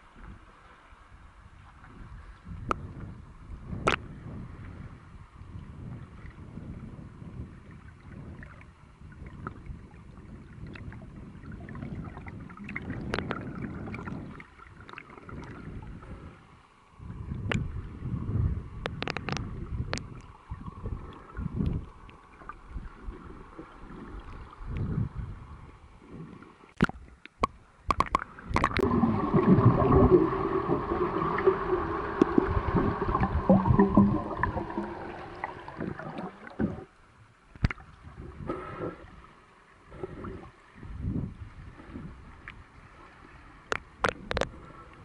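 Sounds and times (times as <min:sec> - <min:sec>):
underwater sloshing and bubbling: 0:00.0 - 0:45.0.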